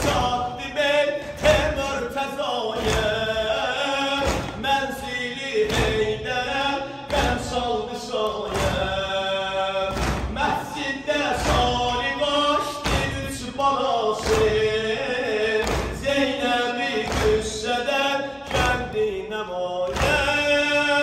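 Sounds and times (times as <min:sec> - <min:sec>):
heavy rhythmic thumps: 0:00.0 - 0:21.0.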